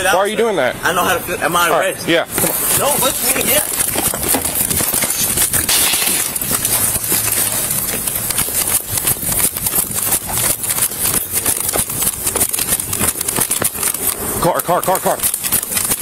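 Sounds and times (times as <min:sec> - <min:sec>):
footsteps on pavement: 0:02.2 - 0:16.0.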